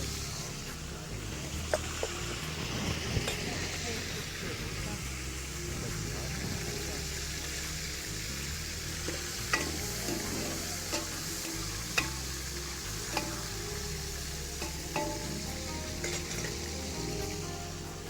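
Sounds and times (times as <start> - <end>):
onions frying in oil: 0.0 - 18.0
utensil clinking against pot: 1.6 - 4.4, 5.4 - 17.6.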